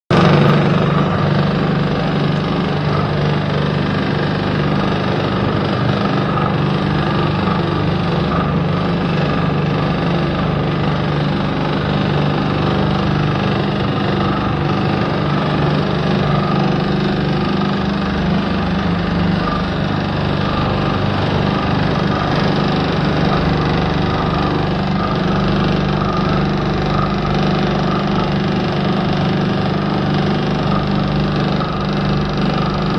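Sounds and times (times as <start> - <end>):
floor scrubber motor hum: 0.1 - 32.9.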